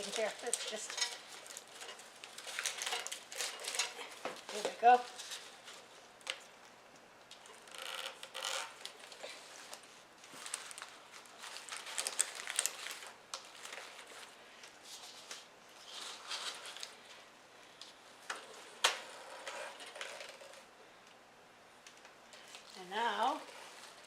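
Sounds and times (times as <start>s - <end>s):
artificial leaves rustling: 0.0s - 6.6s, 7.4s - 20.7s, 22.3s - 24.0s.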